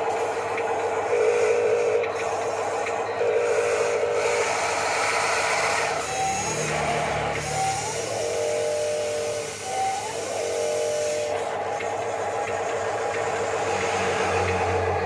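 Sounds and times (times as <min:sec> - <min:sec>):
model machinery motors whining: 0:00.0 - 0:15.0.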